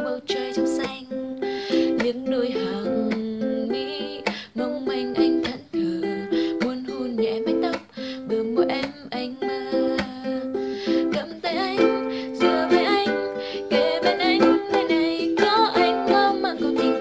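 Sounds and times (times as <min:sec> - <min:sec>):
ukulele strumming: 0:00.0 - 0:17.0
woman singing a pop ballad: 0:00.0 - 0:17.0.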